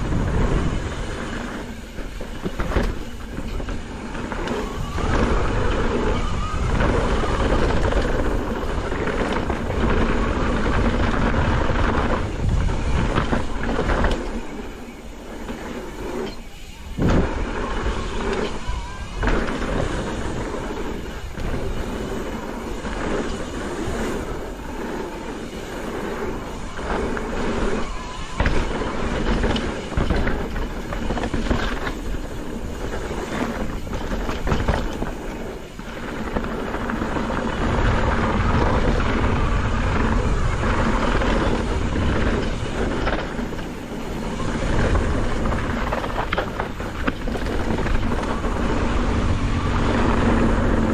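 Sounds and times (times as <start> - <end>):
bike knocking and clattering: 0.0 - 50.9
bike tyres rolling on dirt: 0.0 - 50.9
wind rushing over microphone: 0.0 - 50.9.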